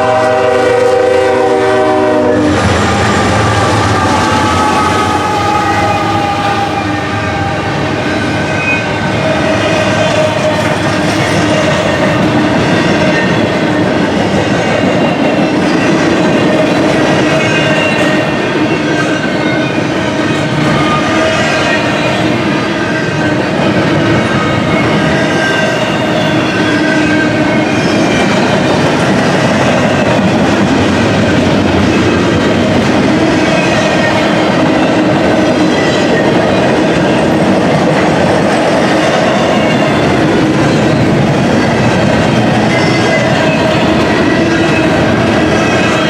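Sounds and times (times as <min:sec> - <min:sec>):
freight train wheels rumbling on rail: 0:00.0 - 0:46.0
ringing tones from train wheels: 0:00.0 - 0:46.0.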